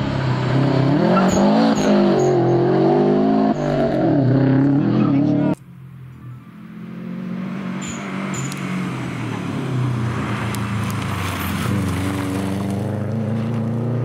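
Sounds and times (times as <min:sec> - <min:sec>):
rally car engine passing by: 0:00.0 - 0:14.0.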